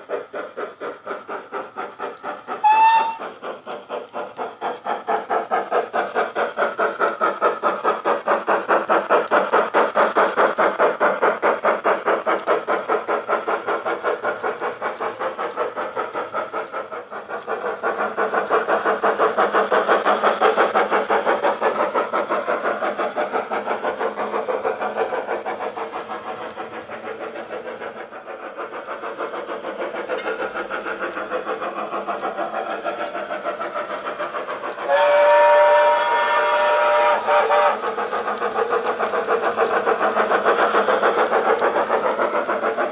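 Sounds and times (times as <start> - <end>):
model steam locomotive chuffing: 0.0 - 42.9.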